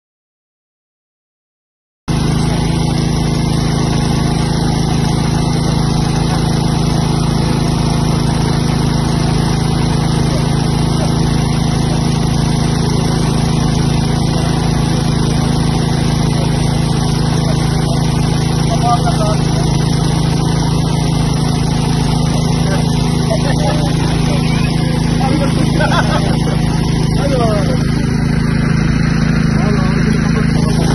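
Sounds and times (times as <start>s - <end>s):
small engine droning: 2.1s - 30.9s.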